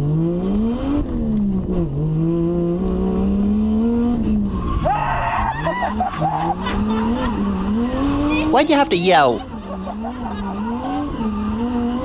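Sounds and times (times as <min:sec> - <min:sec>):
car engine accelerating hard: 0:00.0 - 0:08.5, 0:09.5 - 0:12.0.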